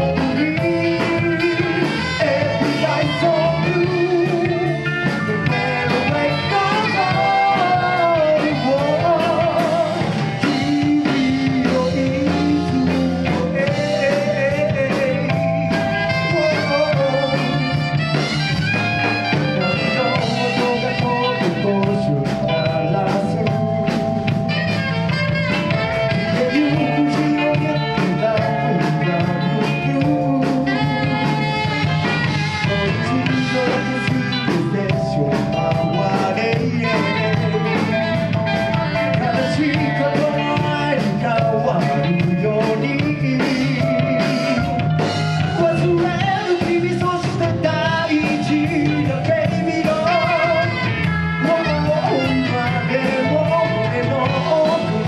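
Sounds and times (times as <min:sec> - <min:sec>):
live band playing: 0:00.0 - 0:55.0
singing voice: 0:00.0 - 0:55.0
steady drum beat: 0:00.0 - 0:55.0.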